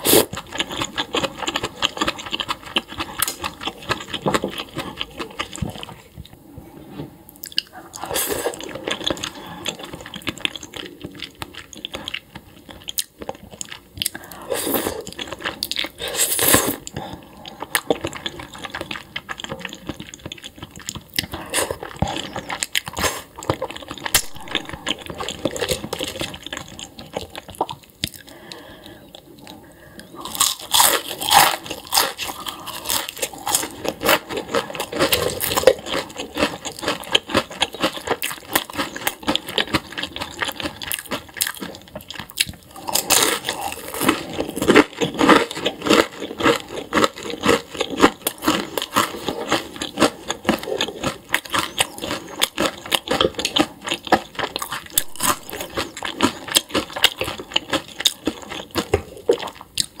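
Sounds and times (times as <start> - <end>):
person crunching food: 0.0 - 6.2, 7.4 - 60.0.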